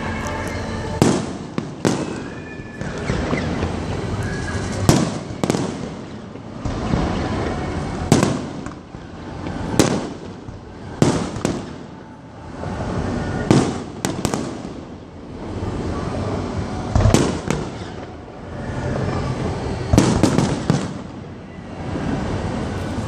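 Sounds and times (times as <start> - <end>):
continuous rushing noise: 0.0 - 23.0
fireworks bursting in sharp bangs: 0.5 - 15.9, 16.8 - 18.2, 18.8 - 21.3.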